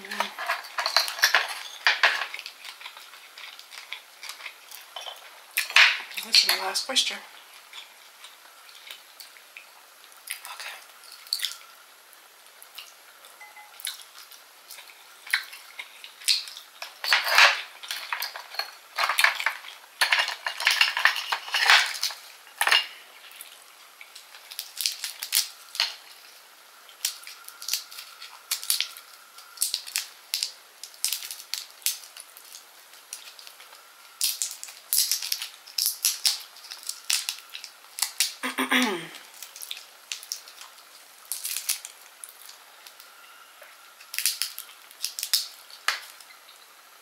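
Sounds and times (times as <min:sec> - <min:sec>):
shrimp shells crackling: 0:00.0 - 0:11.8, 0:12.6 - 0:38.4, 0:39.0 - 0:43.2, 0:44.0 - 0:46.6.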